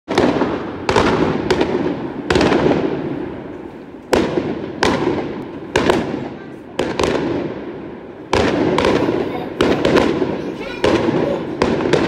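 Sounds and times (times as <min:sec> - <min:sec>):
fireworks bangs with crackle: 0:00.1 - 0:12.0.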